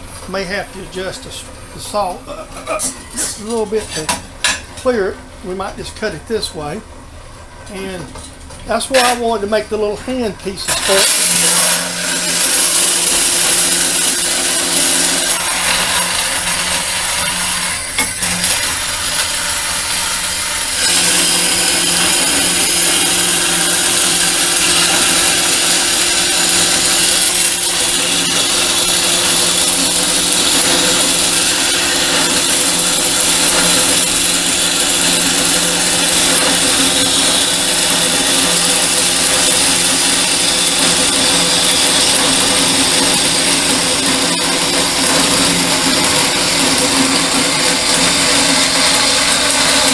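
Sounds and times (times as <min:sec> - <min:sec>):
saw blade cutting steel: 0:00.0 - 0:06.4, 0:08.7 - 0:49.9
band saw motor hum: 0:00.0 - 0:49.9.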